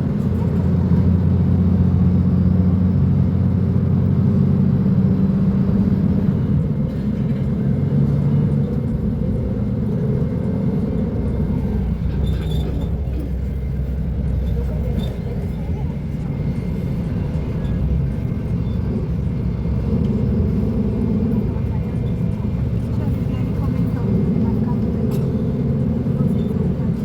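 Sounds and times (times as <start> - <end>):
bus engine droning: 0.0 - 27.0.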